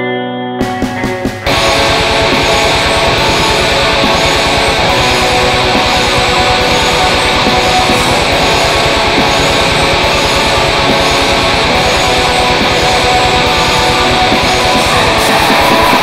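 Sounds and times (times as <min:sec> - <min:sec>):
distorted electric guitar: 0:00.0 - 0:16.0
fast low drum beats: 0:00.6 - 0:16.0.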